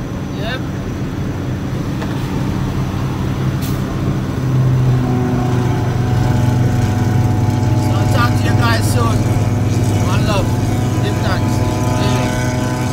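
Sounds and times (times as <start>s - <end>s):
road noise: 0.0s - 12.9s
truck engine drone: 0.0s - 12.9s.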